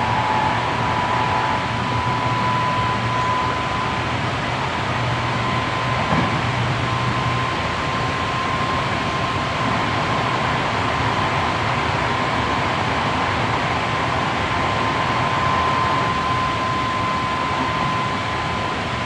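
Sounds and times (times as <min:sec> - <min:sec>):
steady high tone: 0:00.0 - 0:19.0
train wheels rumbling on rail: 0:00.0 - 0:19.0.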